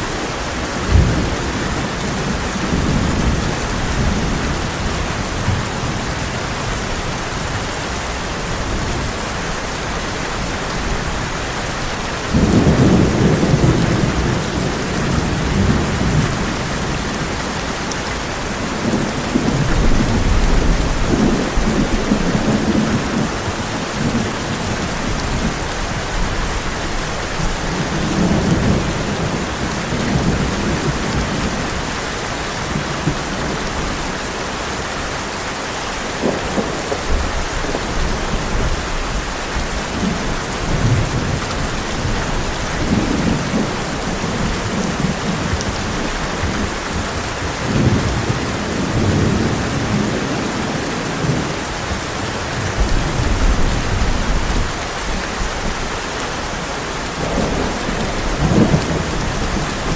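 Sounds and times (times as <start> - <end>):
thunder rumbling: 0.0 - 34.1, 36.1 - 59.9
heavy rain on a tin roof: 0.0 - 59.9.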